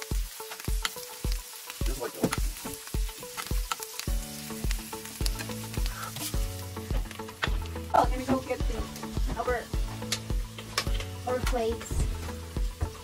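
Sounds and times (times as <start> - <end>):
background music with beat: 0.0 - 13.0
meat sizzling in a frying pan: 0.0 - 13.0.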